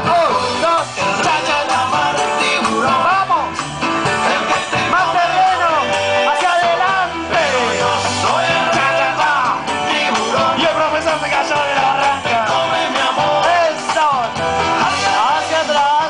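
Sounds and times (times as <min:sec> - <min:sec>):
upbeat dance music with singer: 0:00.0 - 0:16.0.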